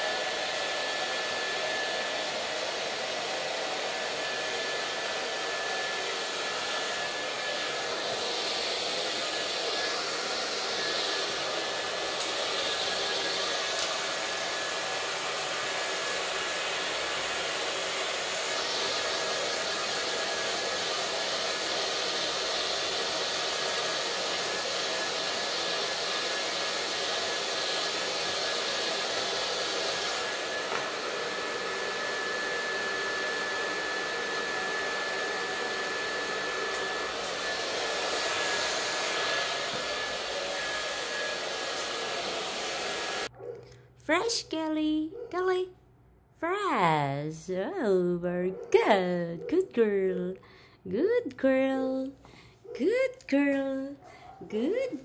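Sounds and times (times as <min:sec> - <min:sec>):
hair dryer blowing: 0:00.0 - 0:43.3, 0:51.6 - 0:55.0.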